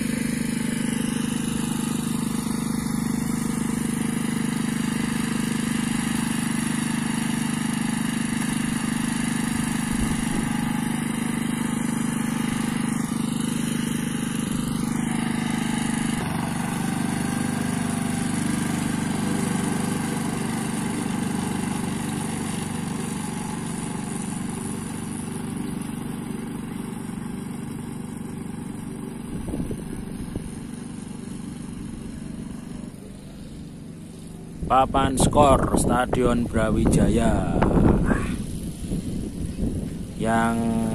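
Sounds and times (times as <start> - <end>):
lawn mower running: 0.0 - 40.9.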